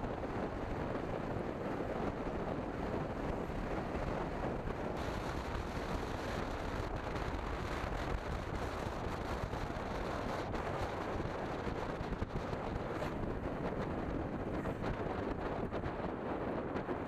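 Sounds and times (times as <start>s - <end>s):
motorcycle road and engine noise: 0.0s - 17.0s
wind rush on microphone: 0.0s - 17.0s.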